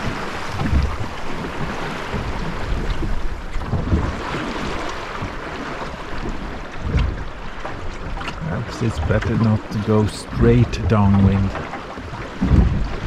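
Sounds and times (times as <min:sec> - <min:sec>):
wind buffeting microphone: 0:00.0 - 0:05.4, 0:06.2 - 0:13.0
waves splashing against hull: 0:00.0 - 0:13.0.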